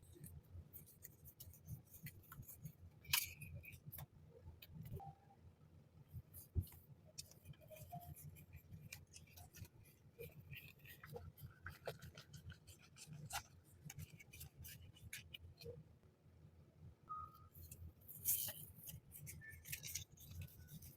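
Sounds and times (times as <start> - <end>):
handling stationery and packaging: 0.0 - 5.1, 6.1 - 15.8, 17.6 - 20.9.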